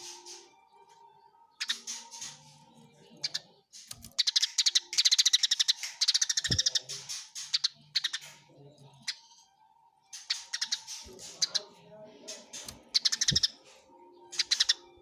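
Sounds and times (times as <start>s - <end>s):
sparrows chirping harshly: 0.0s - 15.0s.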